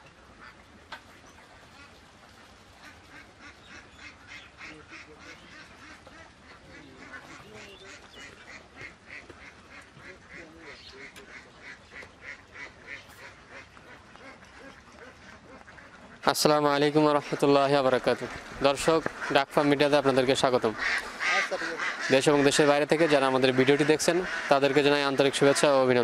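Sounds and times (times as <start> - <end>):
ducks quacking faintly: 0.0 - 26.0.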